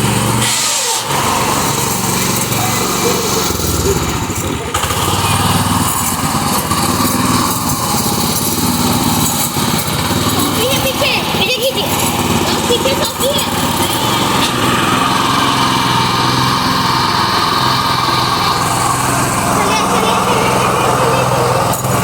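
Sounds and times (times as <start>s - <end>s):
small tractor engine running: 0.0s - 22.0s.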